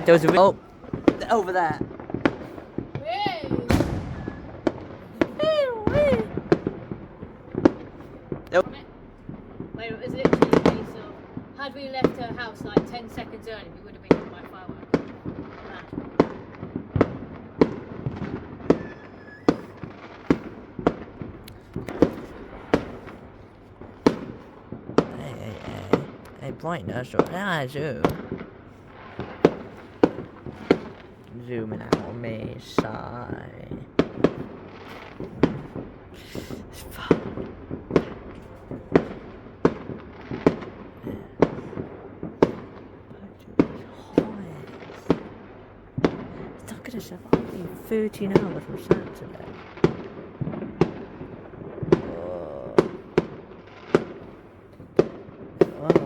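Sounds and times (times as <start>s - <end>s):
distant fireworks crackling: 0.0s - 56.0s
fireworks banging: 0.0s - 56.0s.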